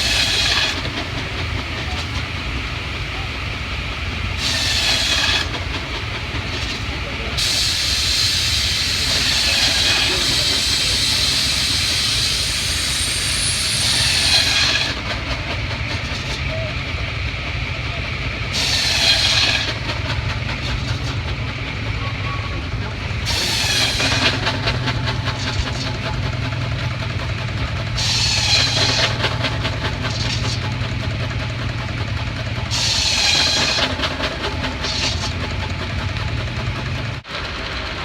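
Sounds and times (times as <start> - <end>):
steam hissing: 0.0 - 38.0.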